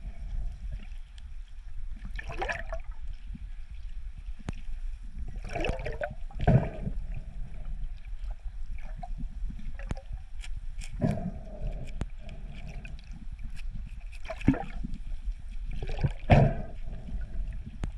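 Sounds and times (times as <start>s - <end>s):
underwater water rumble: 0.0s - 17.9s.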